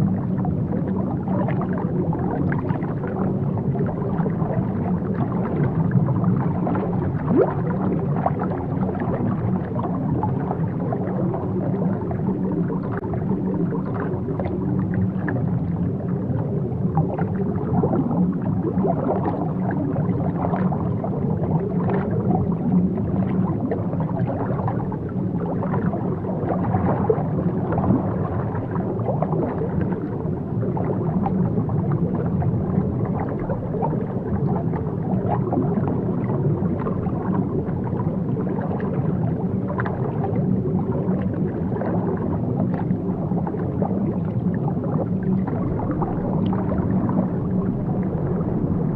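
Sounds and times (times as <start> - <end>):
bubbling and gurgling: 0.0 - 48.9
muffled rush of water: 0.0 - 48.9.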